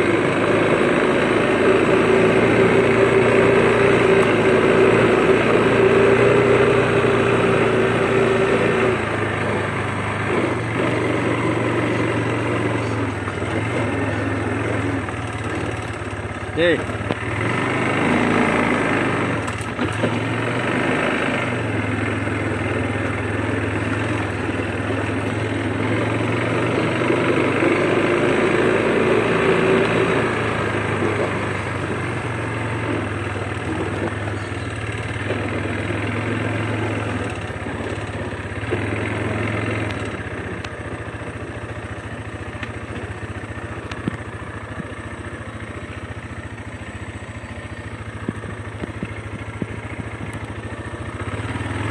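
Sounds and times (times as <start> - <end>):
quad bike engine running: 0.0 - 51.9.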